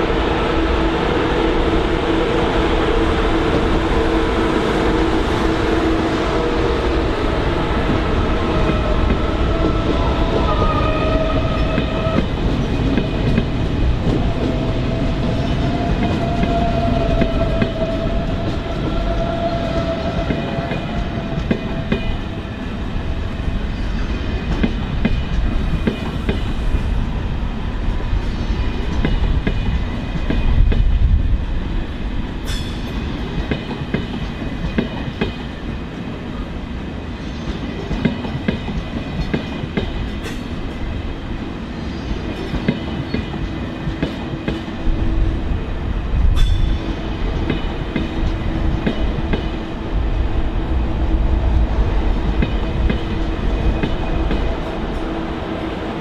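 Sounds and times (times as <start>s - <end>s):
train wheels rumbling on rails: 0.0s - 56.0s
train whine: 0.0s - 56.0s.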